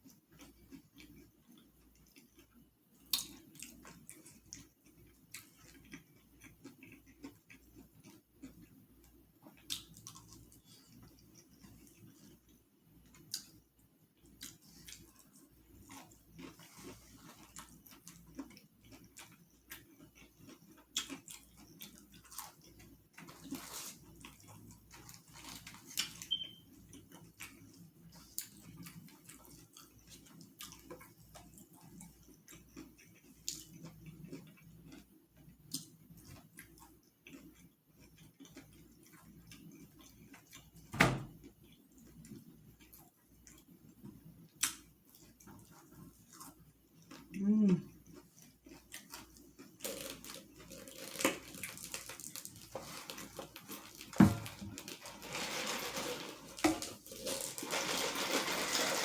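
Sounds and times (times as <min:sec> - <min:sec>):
chewing and lip-smacking: 0:00.0 - 0:40.8, 0:41.4 - 0:54.0.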